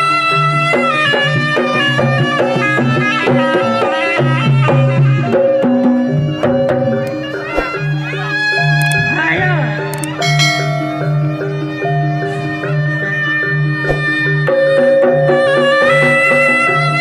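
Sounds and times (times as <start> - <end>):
pitched percussion melody: 0.0 - 17.0
hand drums beating: 0.8 - 17.0.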